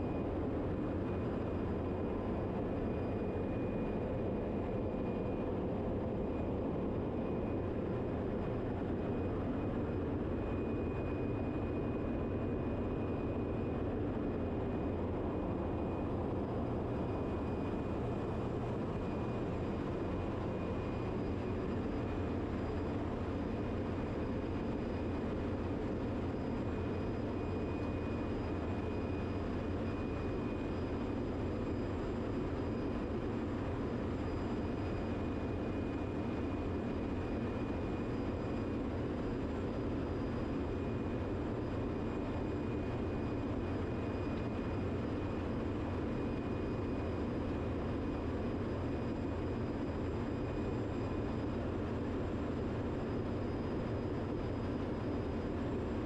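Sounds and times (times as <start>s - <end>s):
engine room machinery drone: 0.0s - 56.0s
faint high whine: 0.0s - 56.0s.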